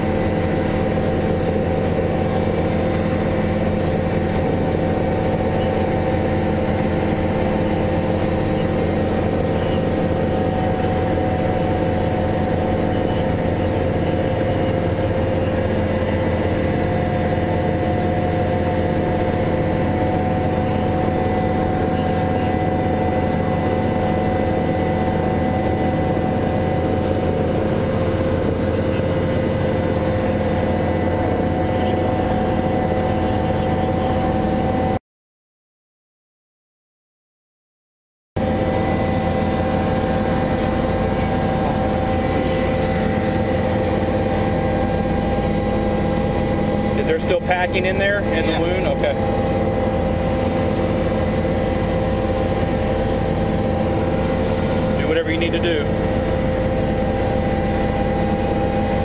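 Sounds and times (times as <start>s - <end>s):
vehicle engine humming: 0.0s - 34.9s, 38.4s - 59.0s.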